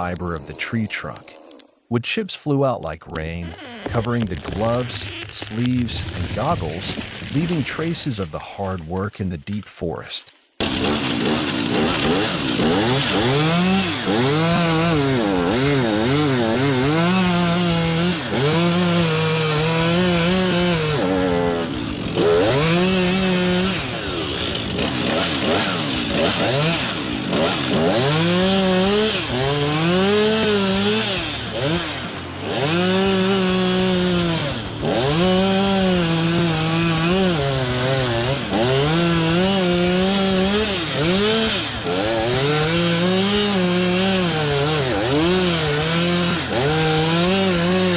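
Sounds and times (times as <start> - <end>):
chainsaw cutting tree trunk: 3.1 - 9.6, 10.6 - 47.9.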